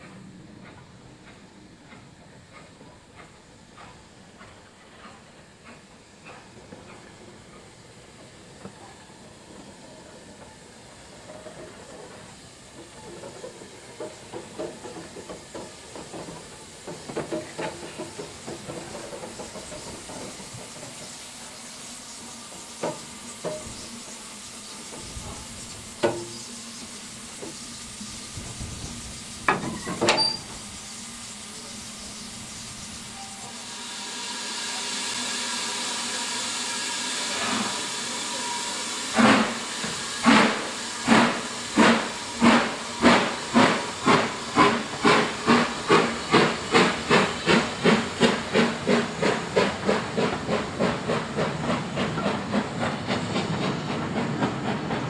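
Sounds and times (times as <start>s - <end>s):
steam locomotive exhaust beats: 0.0s - 55.0s
steam hissing from drain cocks: 0.7s - 55.0s.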